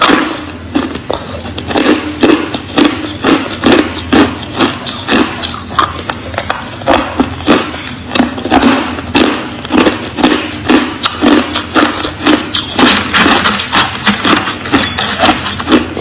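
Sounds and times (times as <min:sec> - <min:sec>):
chewing crushed ice: 0:00.0 - 0:16.0.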